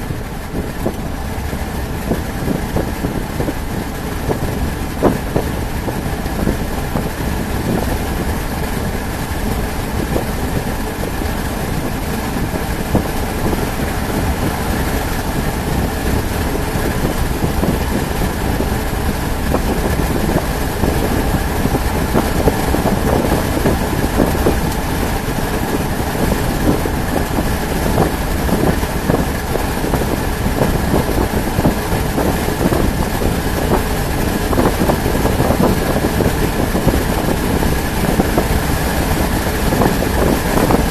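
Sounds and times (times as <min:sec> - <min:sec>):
car engine running: 0:00.0 - 0:40.9
road noise: 0:00.0 - 0:40.9.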